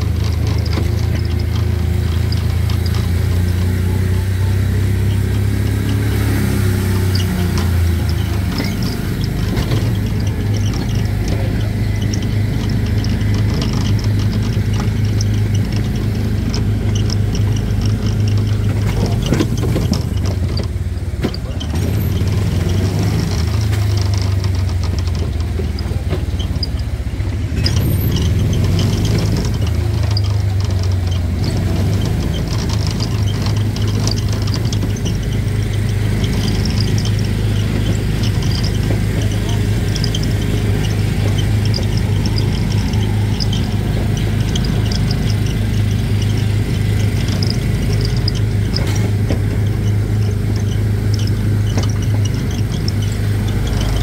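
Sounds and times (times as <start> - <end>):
small gasoline engine droning: 0.0 - 54.0.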